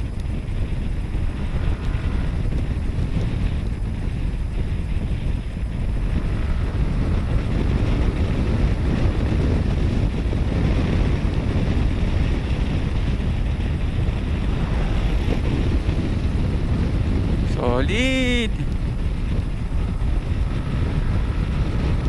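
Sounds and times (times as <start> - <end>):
scooter engine and road noise: 0.0 - 22.0
wind buffeting microphone: 0.0 - 22.0.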